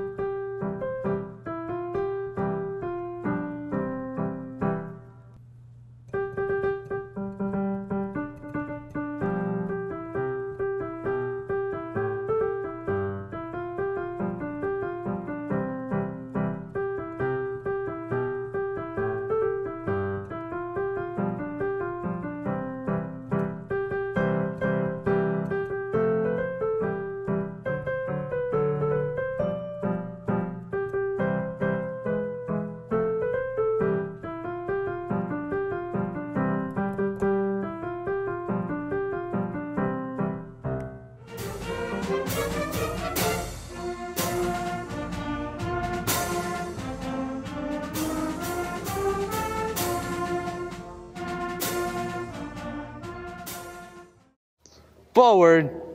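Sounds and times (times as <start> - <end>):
piano music: 0.0 - 5.4, 6.1 - 54.4.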